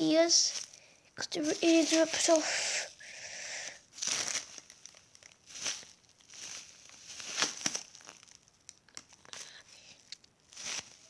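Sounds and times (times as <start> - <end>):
foam toy crinkling and rustling: 0.0 - 11.0.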